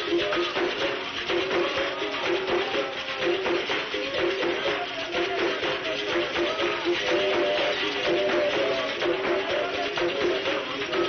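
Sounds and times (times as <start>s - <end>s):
rattling percussion: 0.0s - 11.0s.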